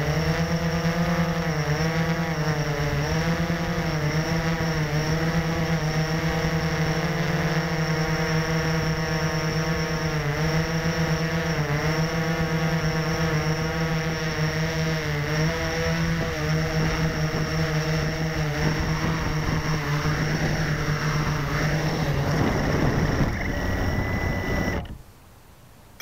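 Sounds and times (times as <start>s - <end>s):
drone motors humming: 0.0s - 25.0s.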